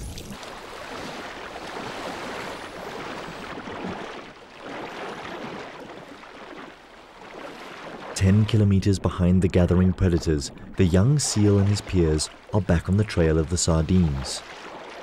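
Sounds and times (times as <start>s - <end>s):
sea water splashing: 0.0s - 15.0s.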